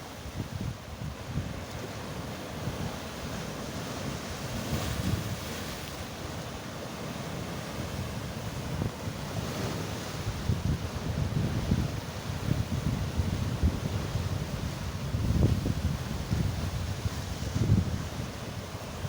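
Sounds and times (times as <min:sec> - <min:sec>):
surf breaking on shore: 0:00.0 - 0:19.0
wind buffeting microphone: 0:00.1 - 0:05.8, 0:07.8 - 0:19.0.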